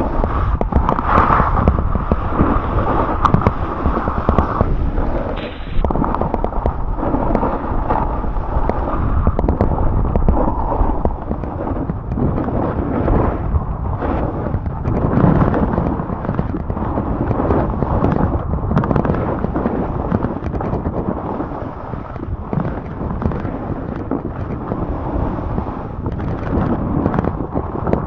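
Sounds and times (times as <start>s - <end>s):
snowboard scraping over snow: 0.0s - 28.0s
wind buffeting microphone: 0.0s - 28.0s.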